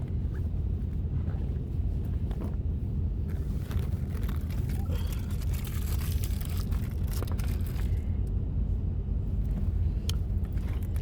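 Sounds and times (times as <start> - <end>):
truck engine rumble from inside cab: 0.0 - 11.0.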